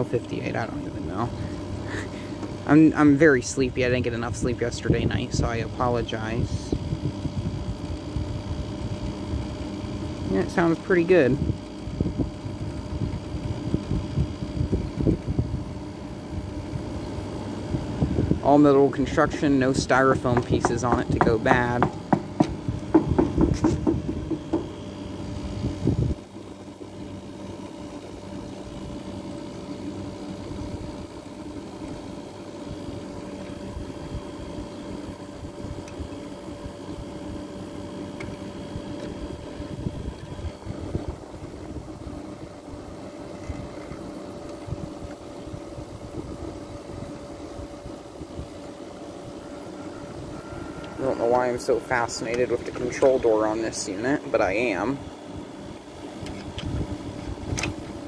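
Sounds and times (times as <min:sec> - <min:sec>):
air conditioner humming: 0:00.0 - 0:58.0.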